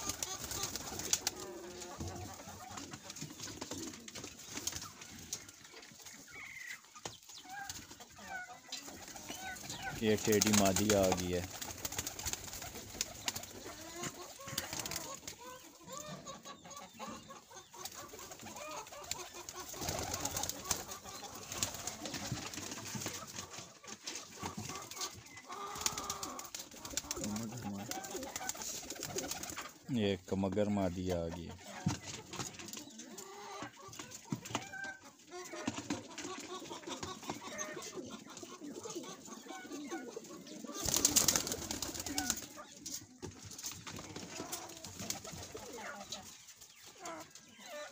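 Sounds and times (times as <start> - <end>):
pigeons cooing: 0.0 - 29.9, 31.4 - 47.9.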